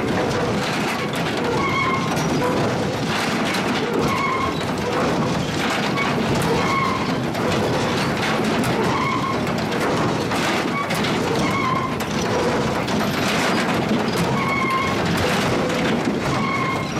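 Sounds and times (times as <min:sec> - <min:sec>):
logs clattering on steel steps: 0:00.0 - 0:16.9.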